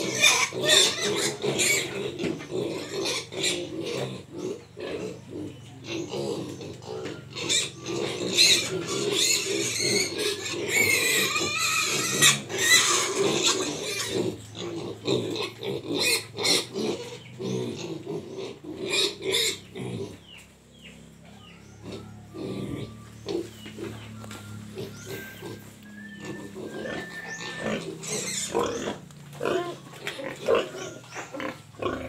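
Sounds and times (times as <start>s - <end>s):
piglets grunting: 0.0s - 32.0s
piglets squealing: 0.0s - 32.0s.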